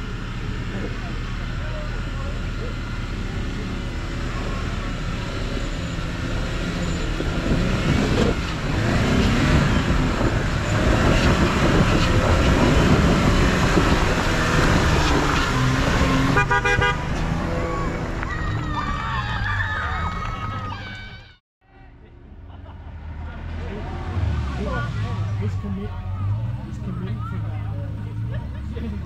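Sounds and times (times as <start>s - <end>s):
car engine pulling uphill: 0.0s - 21.4s, 22.0s - 29.0s.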